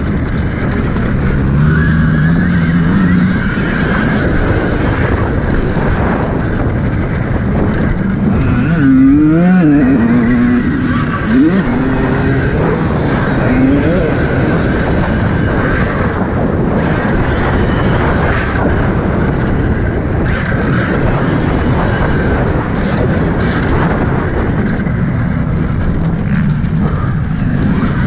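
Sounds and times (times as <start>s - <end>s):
wind rushing: 0.0s - 28.0s.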